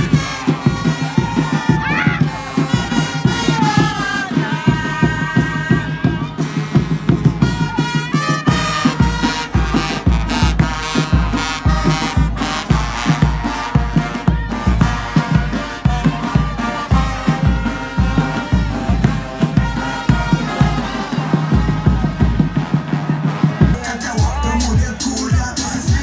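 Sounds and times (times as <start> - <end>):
bass drum beats: 0.0 - 26.0
marching drums: 0.0 - 26.0
trumpet and trombone notes: 0.0 - 26.0.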